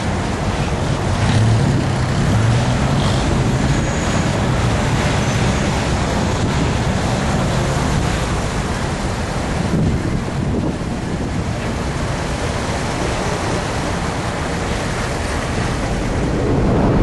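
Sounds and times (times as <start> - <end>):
low engine hum: 0.0 - 17.0
wind and road noise: 0.0 - 17.0.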